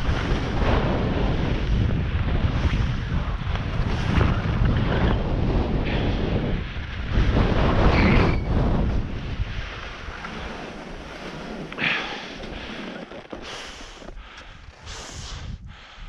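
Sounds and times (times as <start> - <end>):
skis scraping over snow: 0.0 - 15.4
wind buffeting microphone: 0.0 - 16.0.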